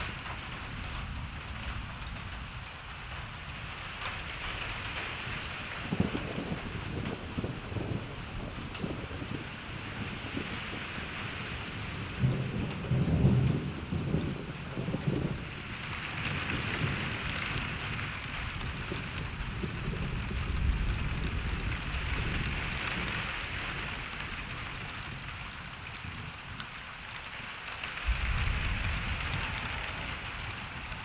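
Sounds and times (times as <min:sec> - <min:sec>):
steady rain falling: 0:00.0 - 0:31.0
thunder rumbling: 0:00.0 - 0:31.0.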